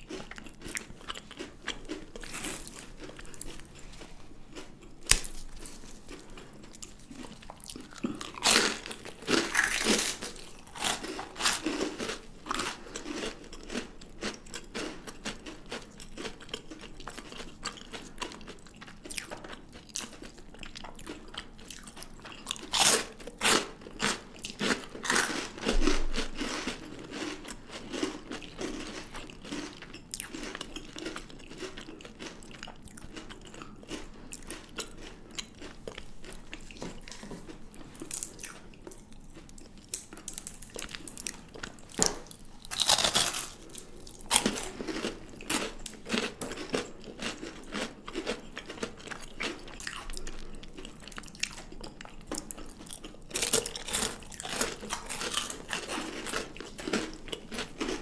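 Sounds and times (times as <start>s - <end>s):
chewing: 0.0s - 58.0s
chocolate snapping and crunching: 0.0s - 58.0s.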